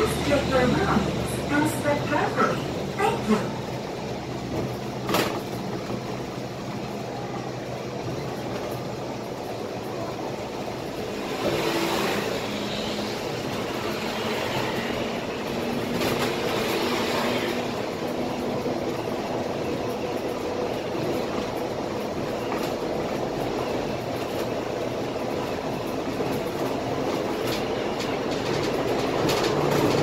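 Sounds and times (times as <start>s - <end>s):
bus engine and road drone: 0.0s - 30.0s.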